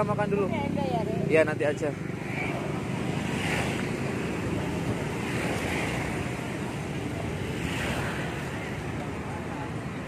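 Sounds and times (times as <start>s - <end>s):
roadside traffic rushing: 0.0s - 10.0s.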